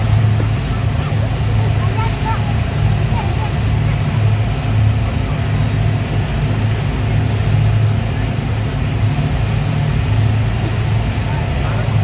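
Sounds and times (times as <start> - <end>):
speedboat engines droning: 0.0 - 12.0.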